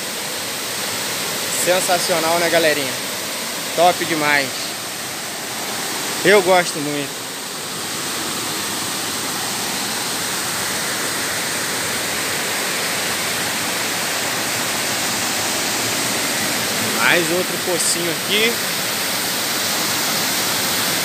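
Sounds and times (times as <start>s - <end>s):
waterfall cascading over rock: 0.0s - 21.0s.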